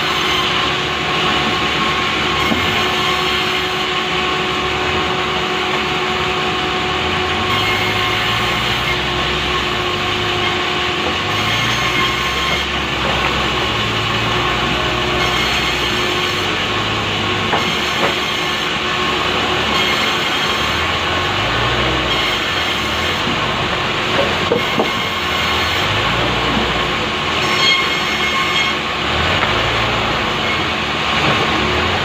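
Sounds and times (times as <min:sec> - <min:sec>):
engine-driven saw cutting log: 0:00.0 - 0:32.0.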